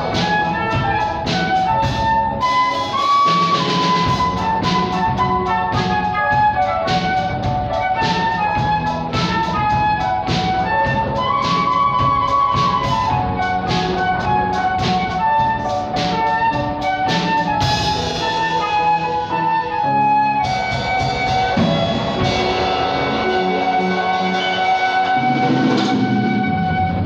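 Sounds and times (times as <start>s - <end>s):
drum kit beat: 0.0s - 27.0s
flute playing pop melody: 0.0s - 27.0s
piano bass notes and chords: 0.0s - 27.0s.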